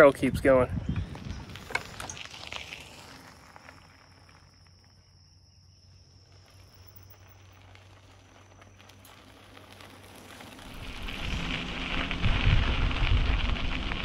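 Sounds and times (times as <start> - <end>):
insect trill: 0.8 - 14.0.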